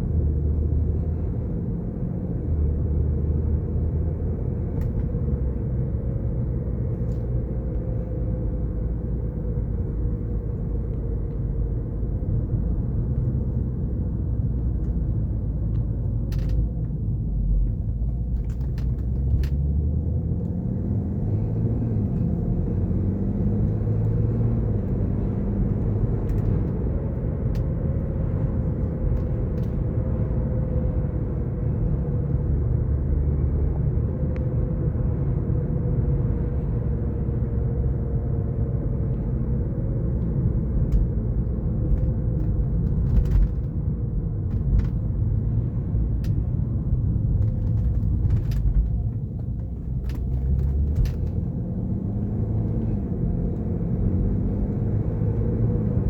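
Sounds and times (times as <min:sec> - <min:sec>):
car drivetrain rumble: 0:00.0 - 0:56.0.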